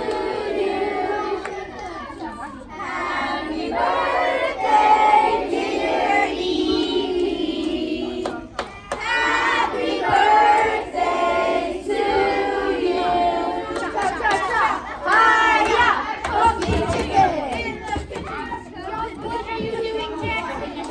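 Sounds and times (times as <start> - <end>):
children singing: 0.0 - 20.3.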